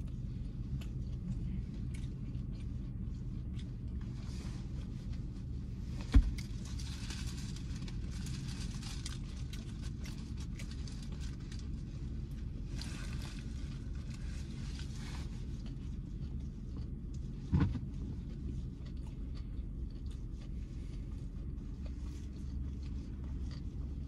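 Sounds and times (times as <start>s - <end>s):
low hum inside car: 0.0s - 24.0s.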